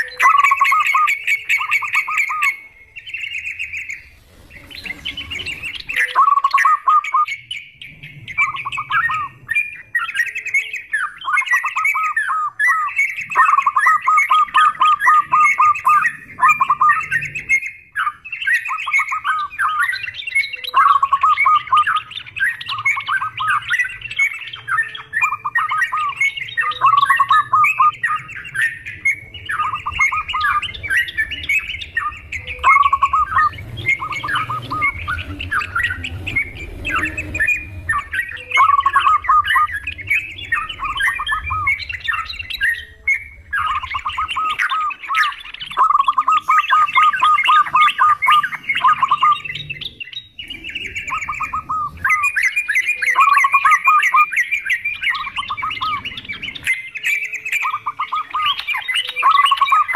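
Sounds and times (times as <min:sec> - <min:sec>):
bulbuls chattering: 0:00.0 - 0:59.9
doves calling: 0:00.0 - 0:59.9.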